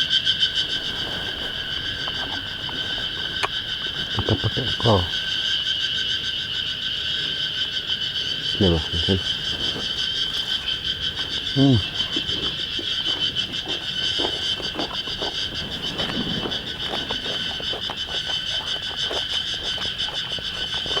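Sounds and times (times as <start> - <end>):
cicada chorus drone: 0.0 - 21.0.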